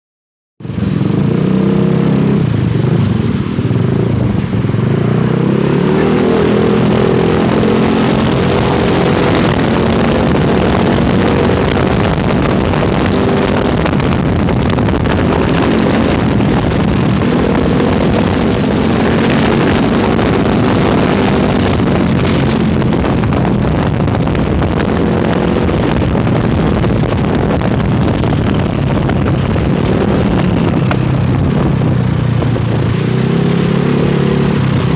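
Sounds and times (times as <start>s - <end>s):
steady rushing noise: 0.6s - 34.9s
scooter engine revving: 0.7s - 34.9s.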